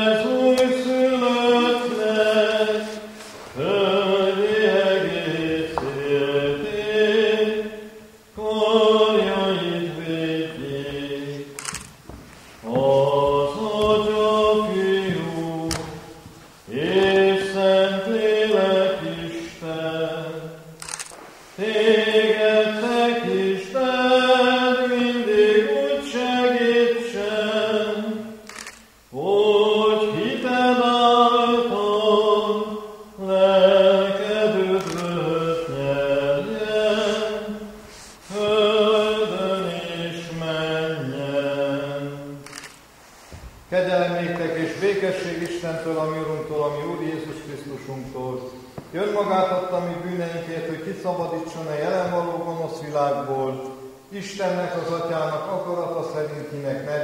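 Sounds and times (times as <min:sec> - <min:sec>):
voices singing a hymn: 0:00.0 - 0:57.0.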